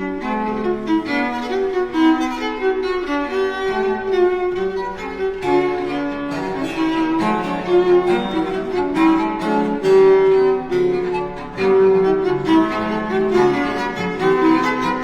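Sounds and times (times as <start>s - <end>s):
slow bowed string melody: 0.0s - 15.0s.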